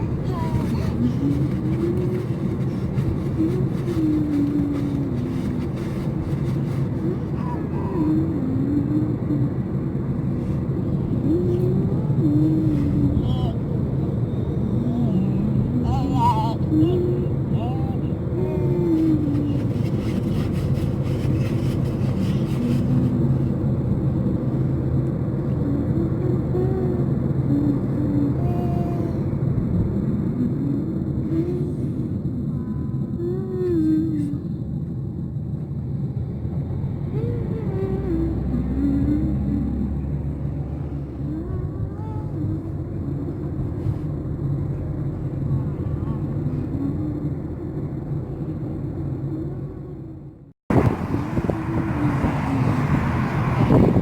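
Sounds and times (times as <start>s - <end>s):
vehicle rumble with low hum: 0.0s - 54.0s.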